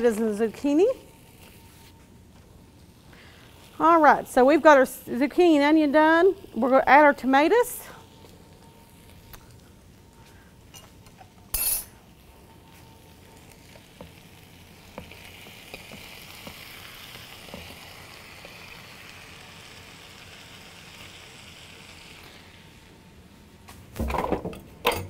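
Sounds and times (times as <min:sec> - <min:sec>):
vegetables sizzling in a skillet: 0:00.0 - 0:10.5, 0:11.6 - 0:23.2.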